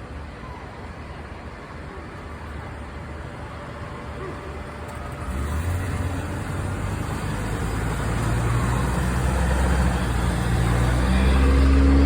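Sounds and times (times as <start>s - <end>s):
fire engine running: 0.0s - 12.0s.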